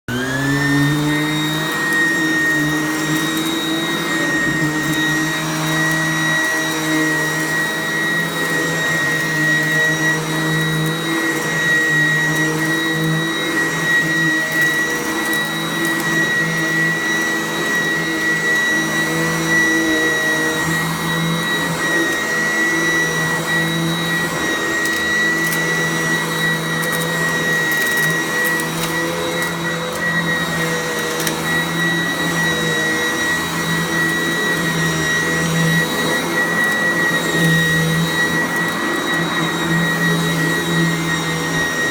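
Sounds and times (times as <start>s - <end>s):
vacuum cleaner motor whining: 0.0s - 41.9s.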